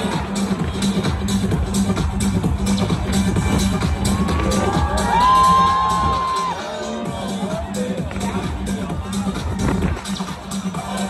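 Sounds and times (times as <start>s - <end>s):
electronic dance music: 0.0s - 11.0s
pulsing bass line: 0.0s - 11.0s.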